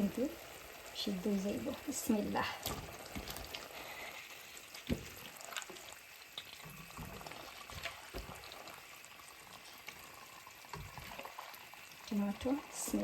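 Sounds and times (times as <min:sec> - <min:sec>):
pot sizzling and bubbling: 0:00.0 - 0:13.0.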